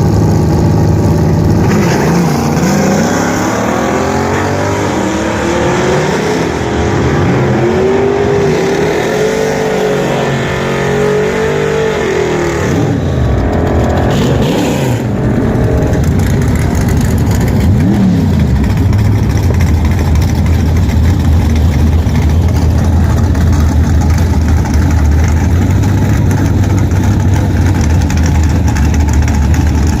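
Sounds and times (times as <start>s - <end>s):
car engine running under load: 0.0s - 9.3s, 12.0s - 30.0s.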